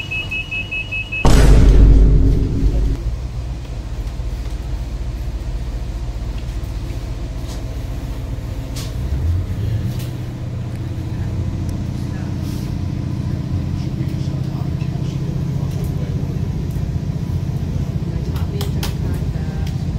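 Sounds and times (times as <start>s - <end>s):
train engine hum: 2.7s - 19.9s.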